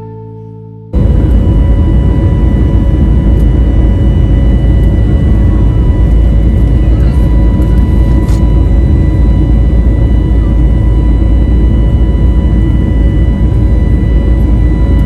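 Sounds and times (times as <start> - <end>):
thin steady whine: 0.9 - 15.0
airliner cabin rumble: 1.0 - 15.0.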